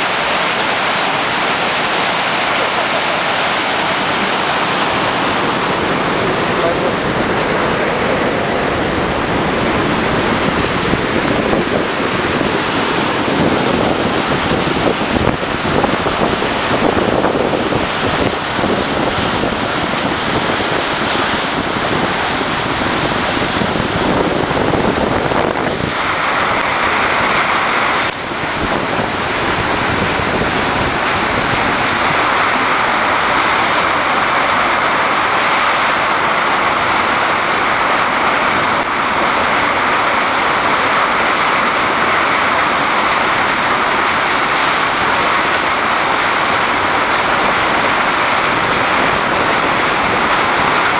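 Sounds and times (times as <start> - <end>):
river water rushing through gate: 0.0 - 50.9
water churning with ice: 0.0 - 50.9.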